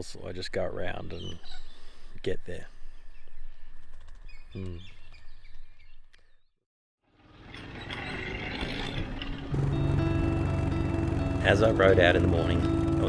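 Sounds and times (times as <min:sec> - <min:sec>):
birds chirping: 0:00.0 - 0:06.6, 0:07.3 - 0:13.0.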